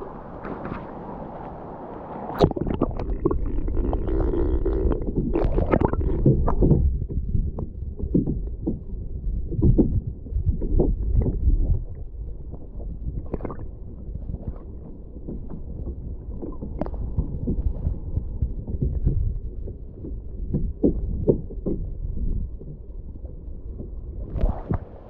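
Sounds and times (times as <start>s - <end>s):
water splashing around kayak: 0.0s - 22.7s
wind rumble on microphone: 0.0s - 25.0s.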